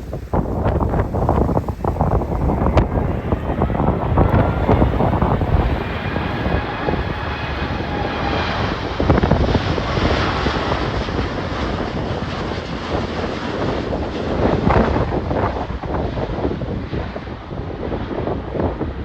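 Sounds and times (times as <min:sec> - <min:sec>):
jet engine roar with whine: 0:00.0 - 0:19.0
wind buffeting microphone: 0:00.0 - 0:19.0.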